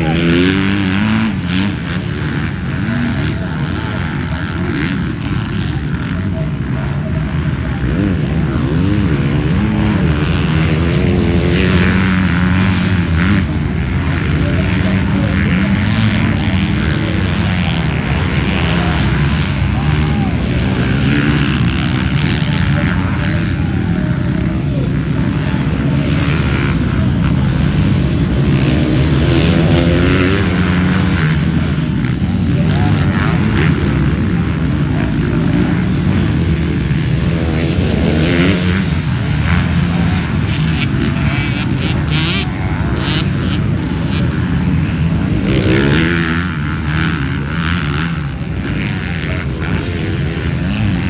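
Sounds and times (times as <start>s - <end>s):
motocross bike engines revving: 0.0s - 51.0s.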